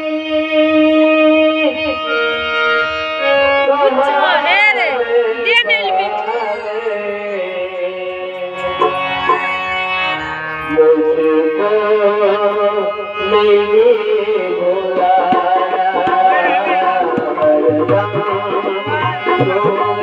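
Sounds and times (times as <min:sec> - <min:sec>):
devotional ghazal music: 0:00.0 - 0:20.0
tabla: 0:00.0 - 0:20.0.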